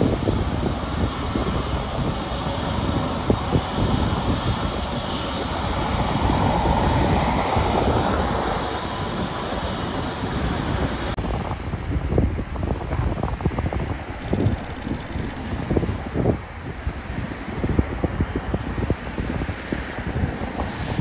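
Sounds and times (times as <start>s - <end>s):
wind rumble on microphone: 0.0s - 14.3s, 15.5s - 21.0s
jet engines of landing plane: 0.0s - 21.0s.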